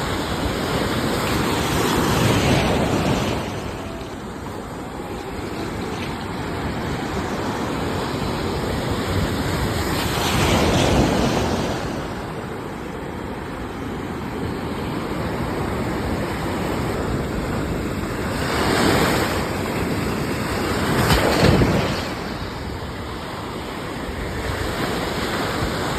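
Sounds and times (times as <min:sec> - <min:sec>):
sea waves washing in: 0:00.0 - 0:25.9.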